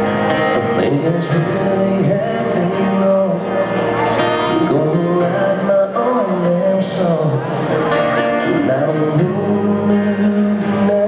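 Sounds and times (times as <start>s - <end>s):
acoustic guitar strumming: 0.0s - 11.0s
man singing: 0.4s - 11.0s.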